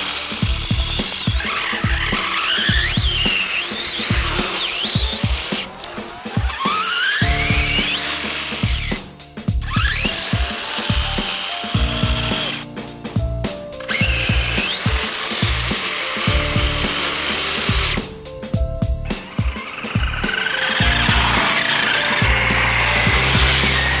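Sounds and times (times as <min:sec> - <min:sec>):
electric motor whining: 0:00.0 - 0:12.7, 0:13.8 - 0:18.2, 0:19.2 - 0:24.0
music with steady beat: 0:00.2 - 0:24.0.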